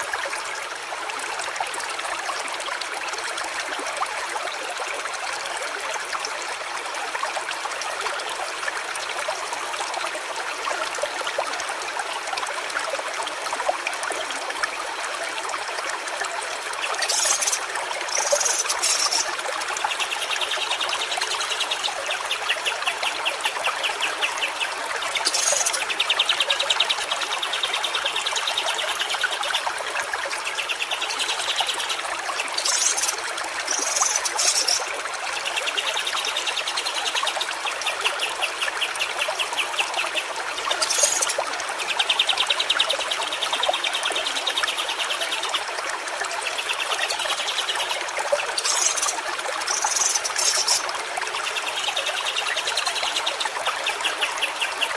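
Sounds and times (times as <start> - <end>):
stream trickling: 0.0 - 54.9.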